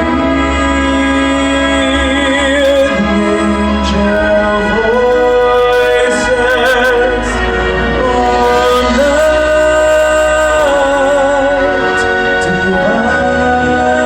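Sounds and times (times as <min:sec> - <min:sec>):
sustained low accompaniment: 0:00.0 - 0:14.0
voices singing with vibrato: 0:00.0 - 0:14.0.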